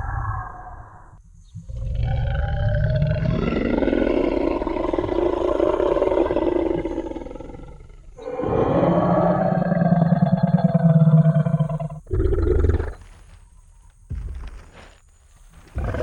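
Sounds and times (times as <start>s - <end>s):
low growling dinosaur roar: 0.0s - 13.0s, 15.8s - 16.0s.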